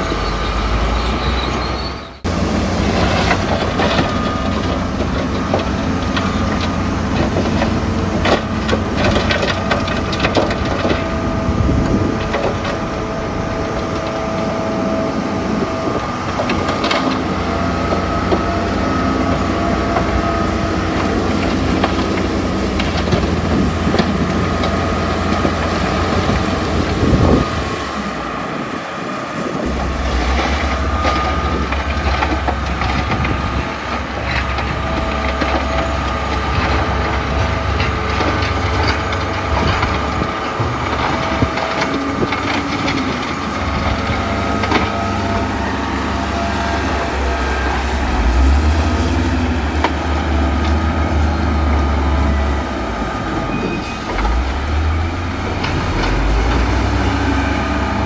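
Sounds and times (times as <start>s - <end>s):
crawler tracks clanking and squealing: 0.0s - 58.0s
diesel engine under load: 0.0s - 58.0s.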